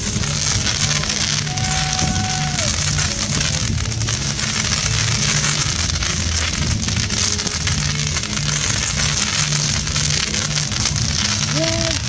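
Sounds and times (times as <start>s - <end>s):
fireworks crackling and popping: 0.0s - 12.0s
music: 0.0s - 12.0s.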